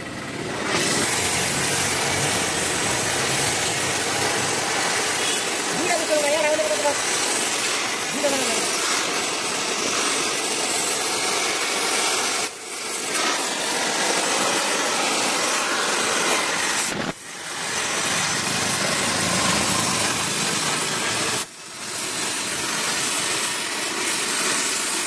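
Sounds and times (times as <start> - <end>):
cutting torch flame hissing: 0.0 - 25.0.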